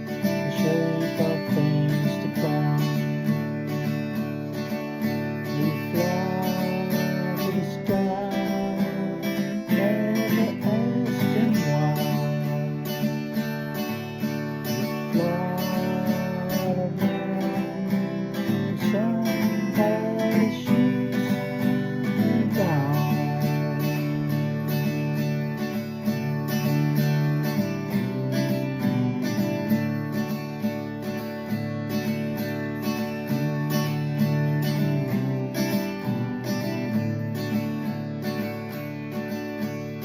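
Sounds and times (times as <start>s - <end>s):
sliding guitar melody: 0.0s - 40.0s
strummed guitar chords: 0.0s - 40.0s.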